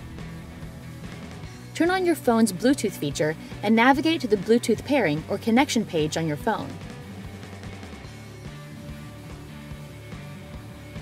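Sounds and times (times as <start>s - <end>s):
light guitar-led music: 0.0s - 11.0s.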